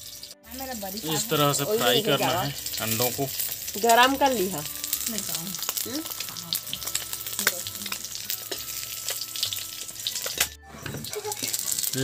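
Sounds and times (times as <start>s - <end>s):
eggs sizzling in hot oil: 0.0s - 12.0s
oil spattering crackles: 0.0s - 12.0s.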